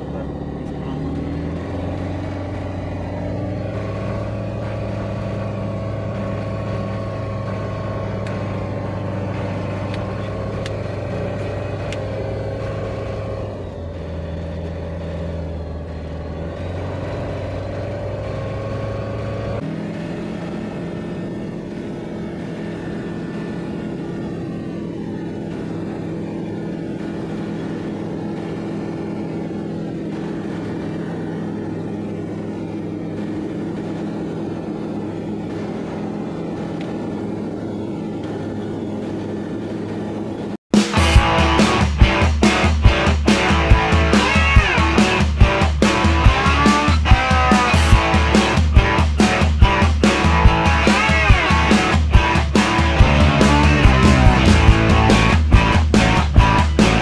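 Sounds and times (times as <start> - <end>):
propeller aircraft engine running: 0.0 - 57.0.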